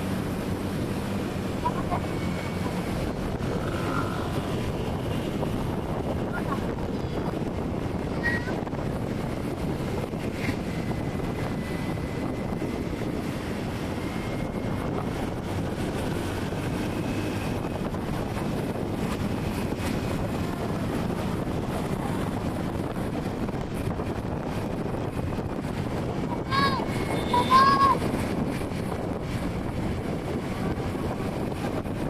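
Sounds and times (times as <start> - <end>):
road and traffic noise: 0.0 - 32.0
wind on microphone: 0.0 - 32.0.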